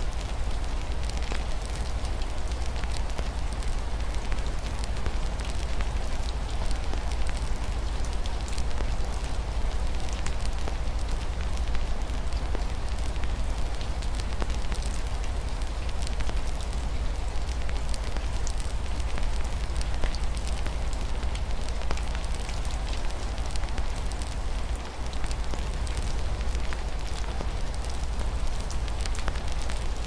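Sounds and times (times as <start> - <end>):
rain on a window: 0.0 - 30.0
wood fire crackling: 0.1 - 30.0.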